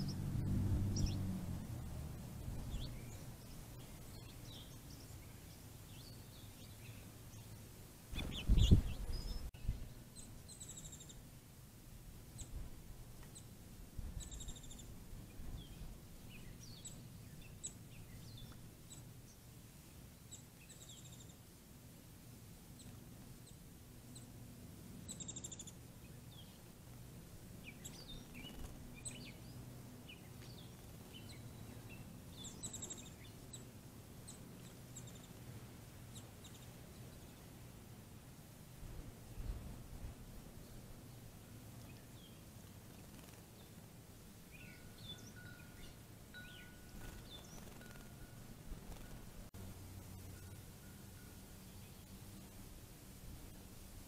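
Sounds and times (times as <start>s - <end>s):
low steady hum: 0.0s - 54.0s
songbirds chirping: 0.0s - 54.0s.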